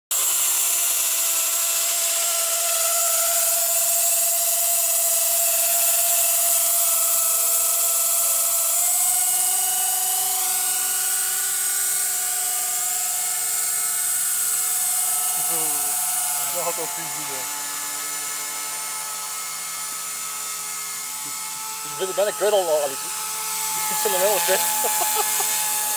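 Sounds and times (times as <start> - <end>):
rc helicopter rotor whine: 0.1 - 25.9.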